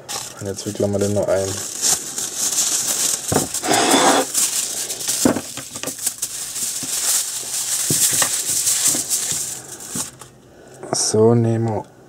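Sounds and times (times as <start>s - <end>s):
aluminium foil crinkling: 0.0s - 10.4s.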